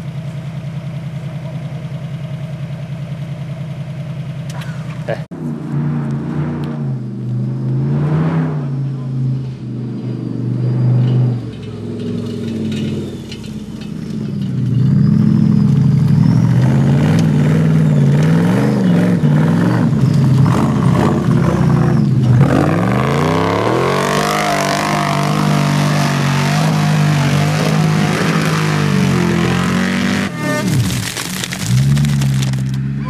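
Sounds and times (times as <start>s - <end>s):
truck engine revving: 4.5s - 33.0s.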